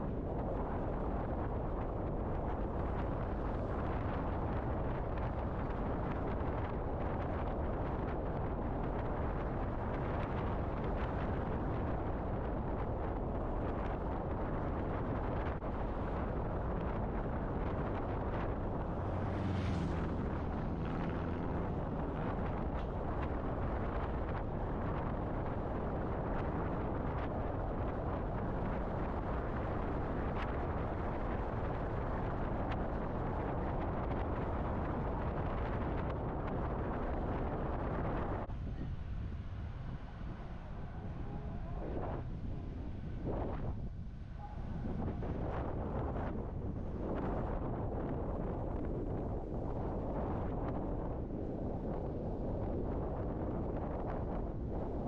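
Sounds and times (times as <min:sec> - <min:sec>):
car driving road noise: 0:00.0 - 0:55.0.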